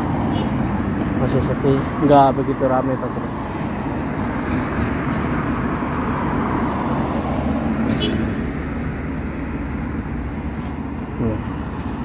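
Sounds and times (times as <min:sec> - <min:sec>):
car driving on city street: 0:00.0 - 0:12.0.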